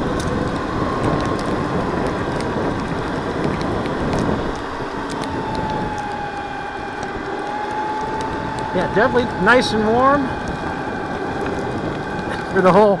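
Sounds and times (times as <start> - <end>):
electric motor whine: 0.0 - 13.0
wind and tyre rush: 0.0 - 13.0.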